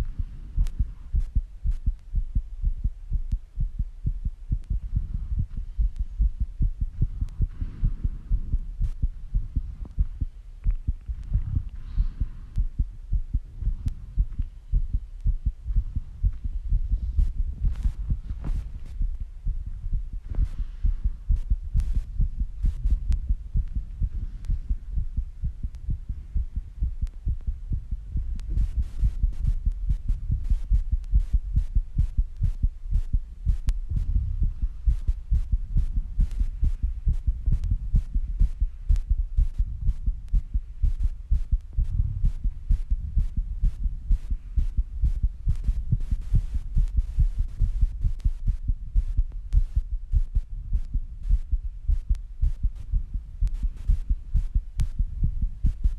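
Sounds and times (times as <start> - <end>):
fast heartbeat: 0.0 - 55.9.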